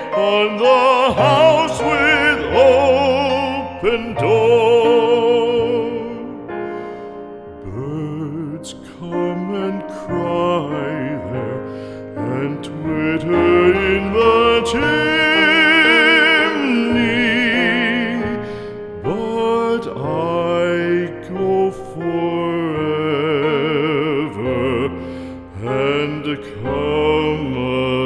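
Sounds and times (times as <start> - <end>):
slow classical music with vibrato melody: 0.0 - 28.0.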